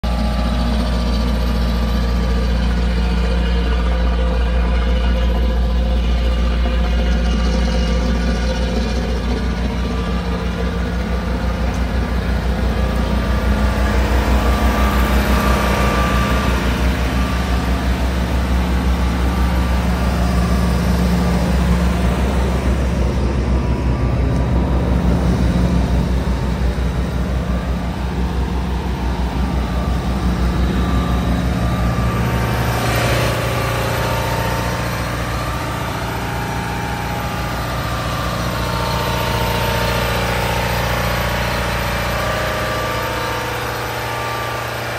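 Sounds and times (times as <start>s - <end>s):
compressor engine thrumming: 0.0s - 44.9s.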